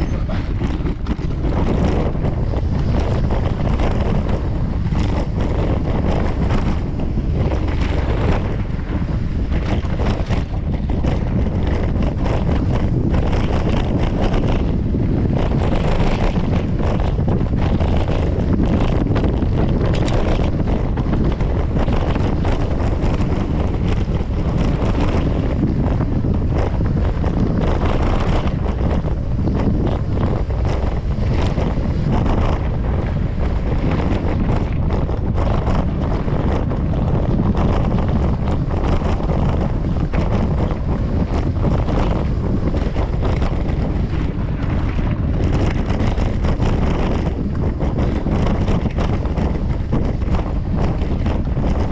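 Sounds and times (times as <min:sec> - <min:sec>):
bike rattling and knocking: 0:00.0 - 0:51.9
bike tyres rumbling on gravel: 0:00.0 - 0:51.9
wind buffeting microphone: 0:00.0 - 0:51.9.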